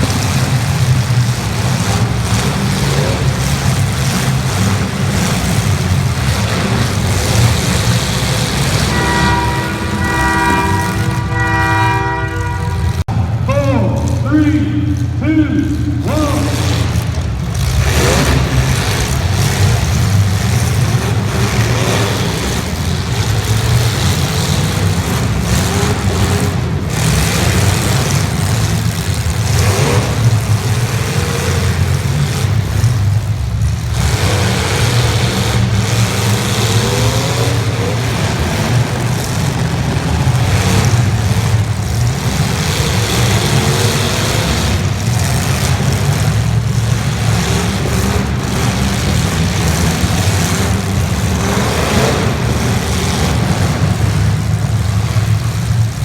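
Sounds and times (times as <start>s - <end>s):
car engines revving: 0.0s - 56.0s
continuous low rumble: 0.0s - 56.0s.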